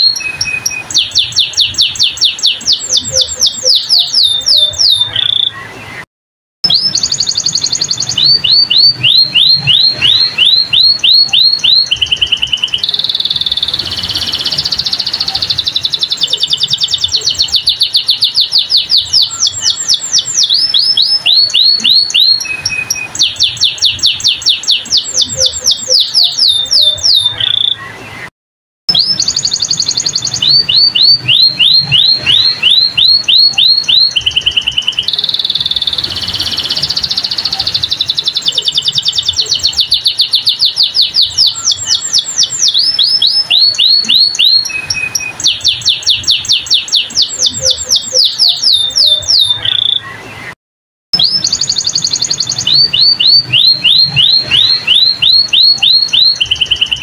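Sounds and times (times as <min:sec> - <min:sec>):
canary singing trills: 0:00.0 - 0:06.0, 0:06.6 - 0:28.3, 0:28.9 - 0:50.6, 0:51.2 - 0:57.0.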